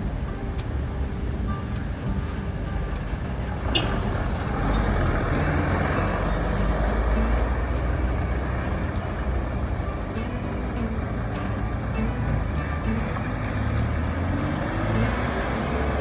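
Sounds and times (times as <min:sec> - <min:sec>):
large vehicle engine rumble: 0:00.0 - 0:16.0.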